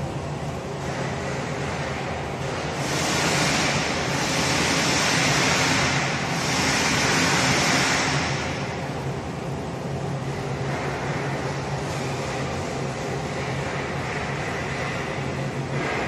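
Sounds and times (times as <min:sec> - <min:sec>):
machine motor hum: 0:00.0 - 0:16.0.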